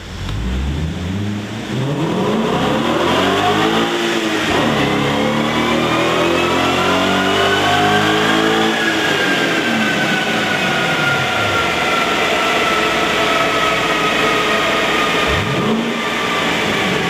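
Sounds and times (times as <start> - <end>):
car engine revving with exhaust: 0.0 - 17.0.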